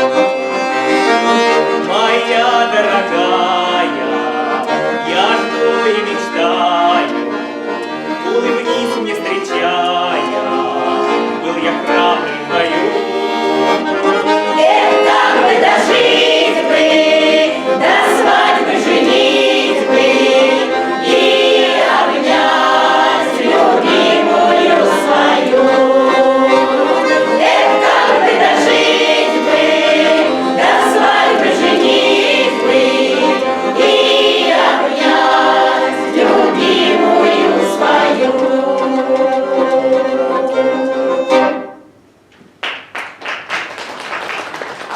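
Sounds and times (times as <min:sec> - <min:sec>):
accordion: 0:00.0 - 0:42.1
group of voices singing: 0:00.9 - 0:41.6.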